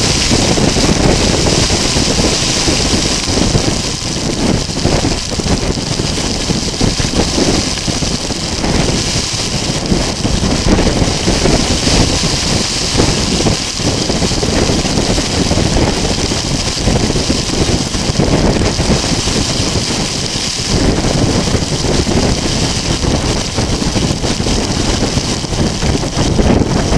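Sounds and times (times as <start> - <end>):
rain: 0.0 - 26.9
storm wind roaring: 0.0 - 26.9
wind buffeting microphone: 0.0 - 26.9.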